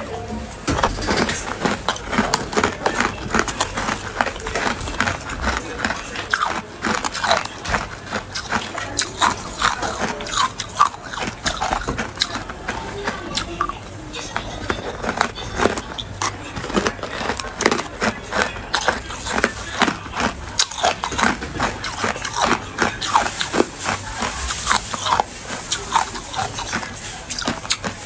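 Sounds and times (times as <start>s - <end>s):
ice being bitten and chewed: 0.6s - 28.0s.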